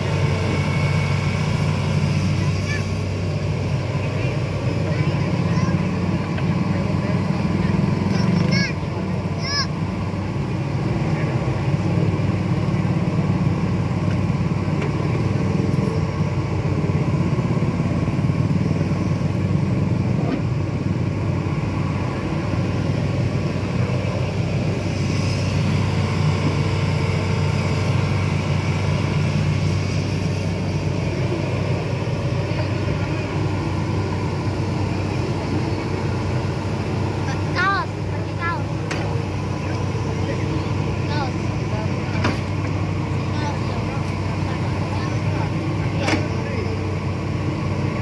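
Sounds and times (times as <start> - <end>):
excavator diesel engine droning: 0.0 - 48.0.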